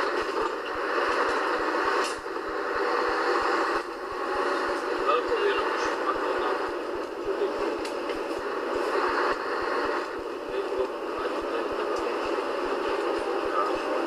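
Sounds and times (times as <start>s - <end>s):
diesel truck engine running: 0.0s - 14.0s
faint steady whine: 0.0s - 14.0s
road noise: 0.0s - 14.0s.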